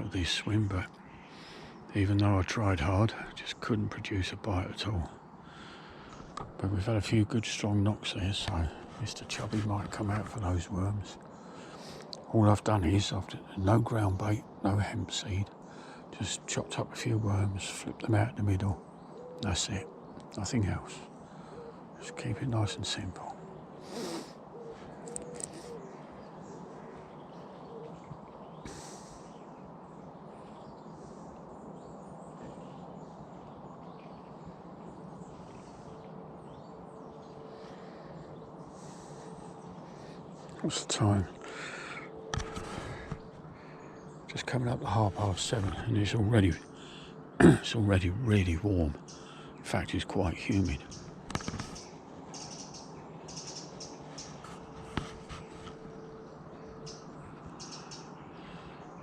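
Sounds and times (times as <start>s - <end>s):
birds chirping: 0.0s - 59.0s
low outdoor background hiss: 0.0s - 59.0s
robin singing: 0.0s - 59.0s.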